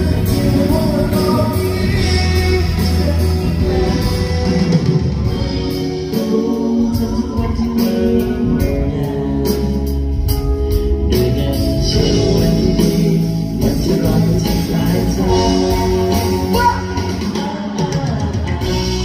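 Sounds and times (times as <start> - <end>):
live pop band with drum beat: 0.0 - 19.0
person singing: 0.0 - 19.0.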